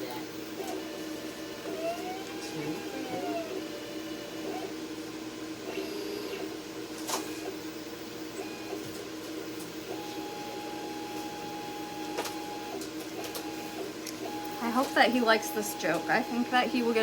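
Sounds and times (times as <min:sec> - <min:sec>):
cutting machine motors whirring: 0:00.0 - 0:17.0.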